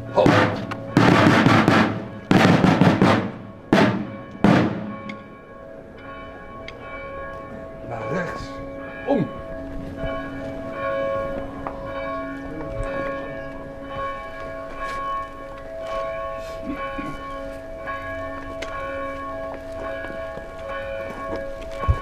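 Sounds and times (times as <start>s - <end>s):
church bells tolling: 0.0s - 22.0s.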